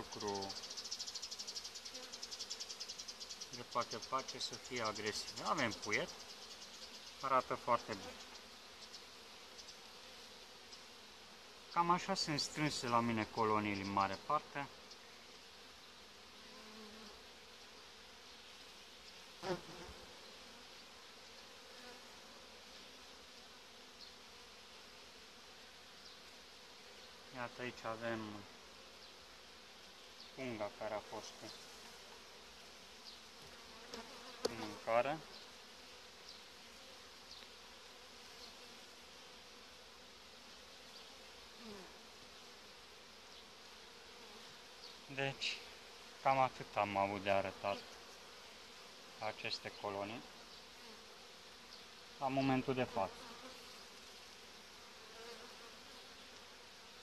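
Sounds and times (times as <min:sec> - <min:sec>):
honeybees humming: 0:00.0 - 0:57.0.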